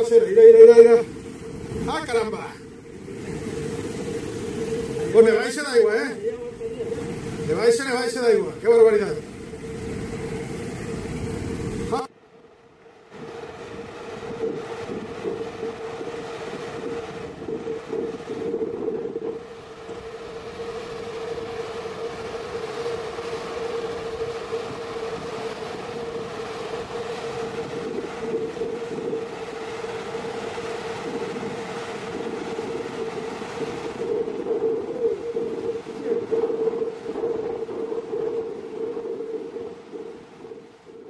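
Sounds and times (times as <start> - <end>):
constant hum: 0.0 - 41.0.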